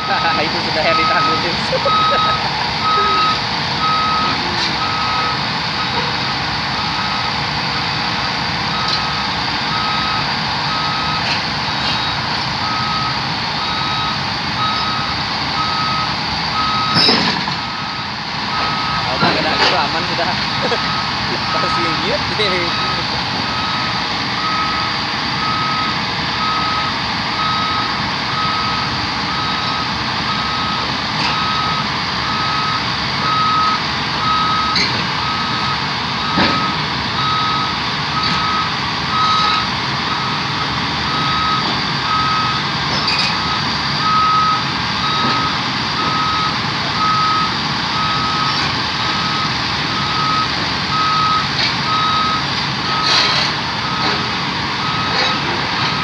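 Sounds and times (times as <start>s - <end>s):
travel alarm beeping: 0.0s - 7.4s, 8.7s - 53.2s, 54.8s - 56.0s
engine running: 0.0s - 56.0s.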